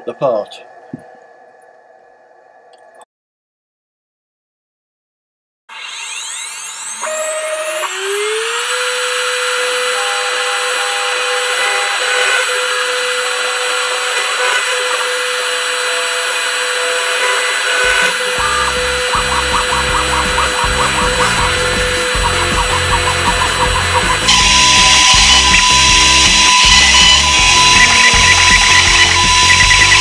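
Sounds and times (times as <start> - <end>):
cutter milling aluminium: 5.7 - 30.0
spindle motor whine: 5.7 - 30.0.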